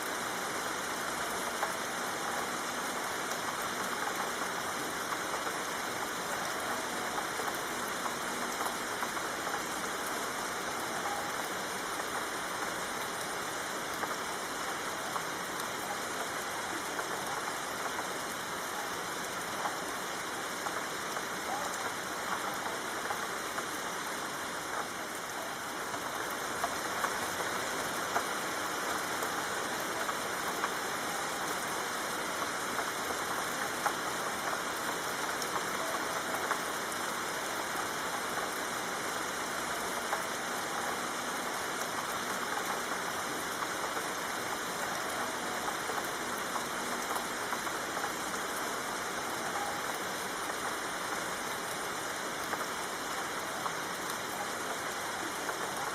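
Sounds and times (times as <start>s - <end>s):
soft rain falling: 0.0s - 55.9s.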